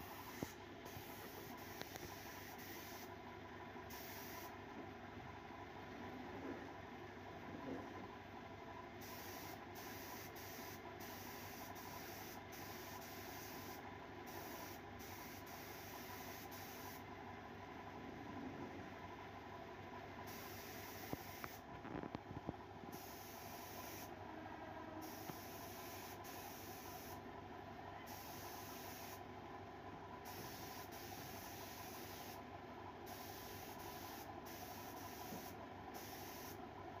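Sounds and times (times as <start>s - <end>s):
room noise hiss: 0.0s - 3.2s, 3.8s - 4.7s, 8.9s - 17.2s, 19.2s - 37.0s.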